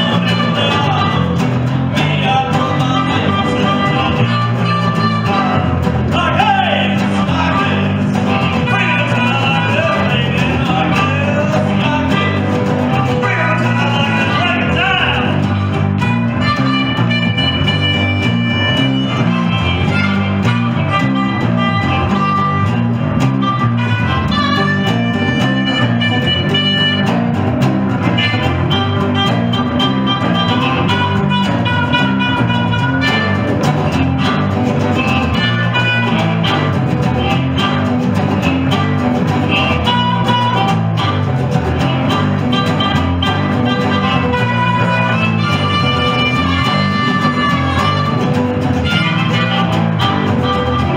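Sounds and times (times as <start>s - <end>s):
bass line: 0.0s - 50.9s
harmonica long held notes: 0.0s - 50.9s
resonator guitar strumming: 0.0s - 50.9s.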